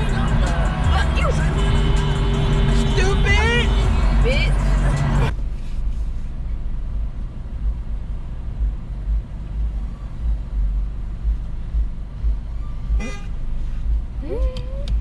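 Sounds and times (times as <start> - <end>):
car engine rumbling inside cabin: 0.0 - 15.0.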